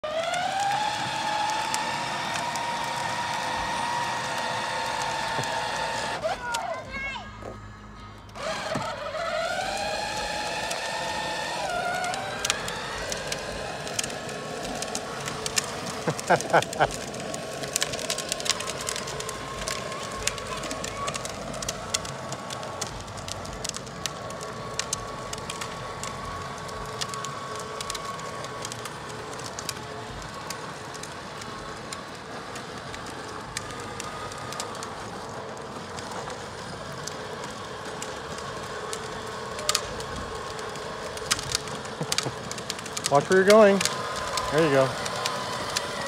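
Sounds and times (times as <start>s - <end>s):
plastic wheels rolling on asphalt: 0.0s - 46.0s.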